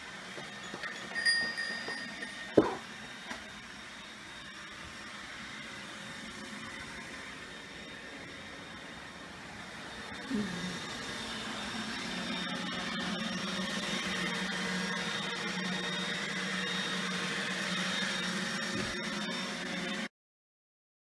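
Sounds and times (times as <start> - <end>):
robot vacuum motor hum: 0.0 - 20.1.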